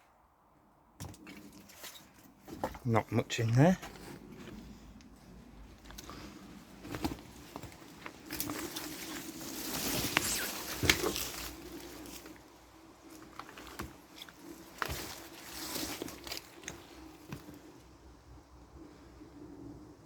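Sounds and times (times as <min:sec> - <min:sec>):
footsteps crunching over debris: 0:01.0 - 0:17.8.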